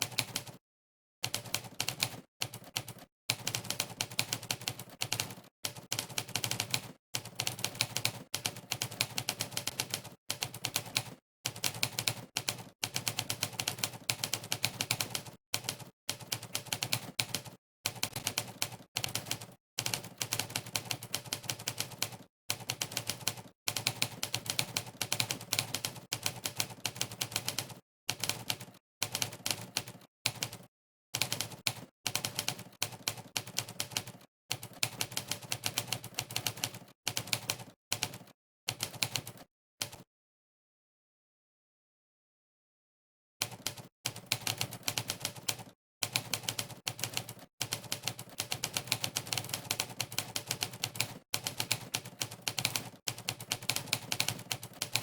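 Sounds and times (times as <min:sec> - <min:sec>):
typewriter keystroke clacks: 0:01.3 - 0:40.0, 0:43.4 - 0:55.0.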